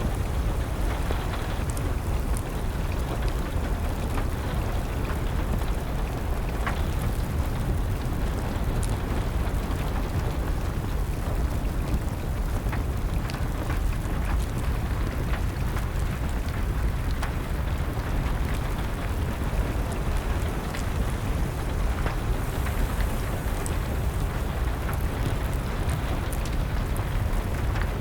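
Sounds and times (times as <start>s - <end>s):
steady rain: 0.0s - 28.0s
wood fire crackling: 0.0s - 28.0s.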